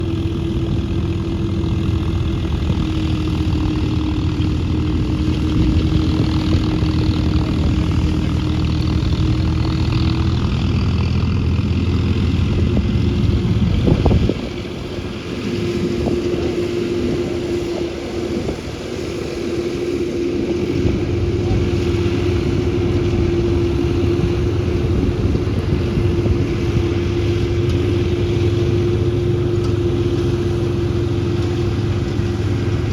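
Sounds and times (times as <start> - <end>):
reaper machine humming: 0.0 - 32.9
tractor diesel engine running: 0.0 - 32.9.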